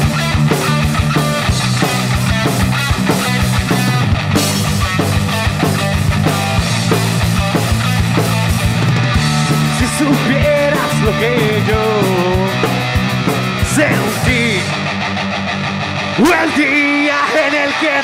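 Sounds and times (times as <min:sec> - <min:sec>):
rock band playing live: 0:00.0 - 0:18.0
sliding lead guitar melody: 0:00.0 - 0:18.0.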